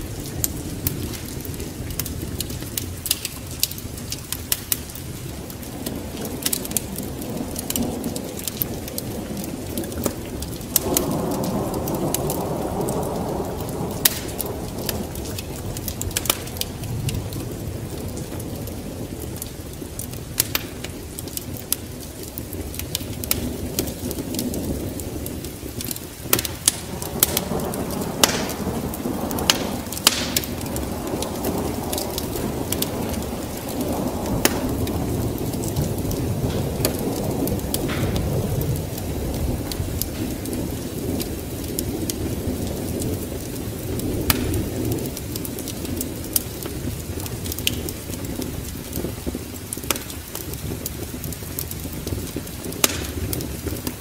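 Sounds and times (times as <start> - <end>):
rain: 0.0 - 54.0
thunder rumbling: 0.0 - 54.0
wood fire crackling: 0.0 - 54.0.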